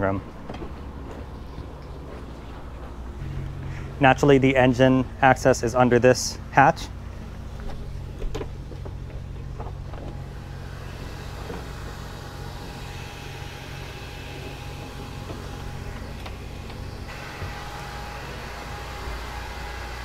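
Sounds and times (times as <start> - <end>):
low machinery hum: 0.0 - 20.0
faint steady whine: 1.3 - 20.0.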